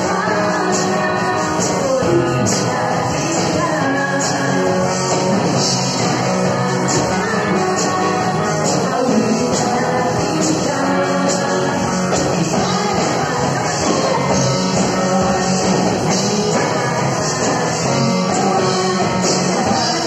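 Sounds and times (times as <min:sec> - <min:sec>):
people singing into microphones: 0:00.0 - 0:20.0
rock band playing: 0:00.0 - 0:20.0.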